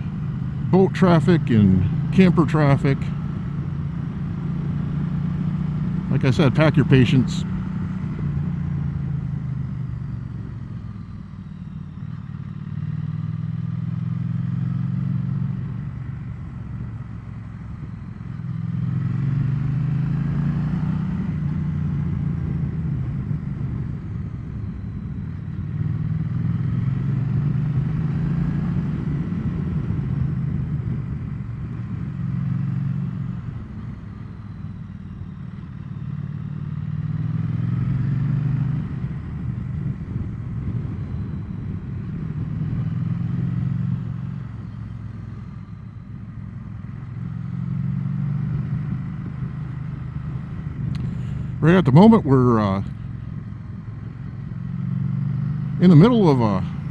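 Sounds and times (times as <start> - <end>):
motorcycle engine accelerating: 0.0 - 34.5, 35.2 - 56.9.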